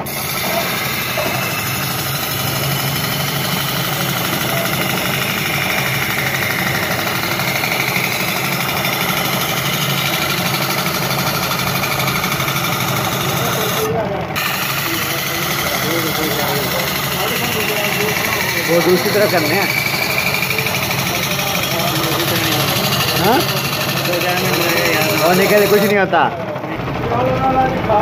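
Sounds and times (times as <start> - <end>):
metal grinding on abrasive wheel: 0.0 - 28.0
motor hum: 0.0 - 28.0.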